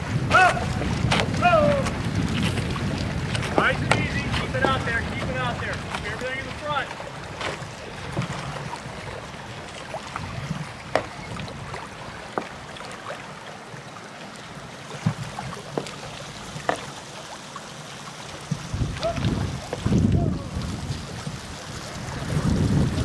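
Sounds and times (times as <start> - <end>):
sharp water slaps: 0.0 - 13.4, 14.8 - 23.0
small waves lapping against breakwater: 0.0 - 23.0.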